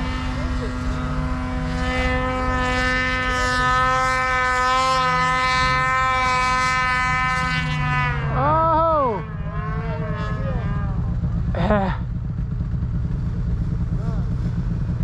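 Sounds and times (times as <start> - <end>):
snowmobile engine idling: 0.0 - 15.0.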